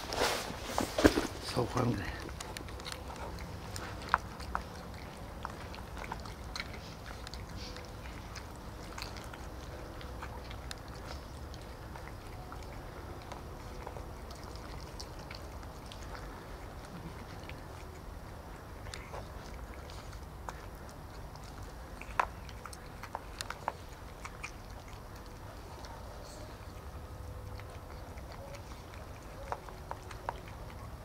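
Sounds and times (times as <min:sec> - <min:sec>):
cats chewing wet food: 0:00.0 - 0:31.0.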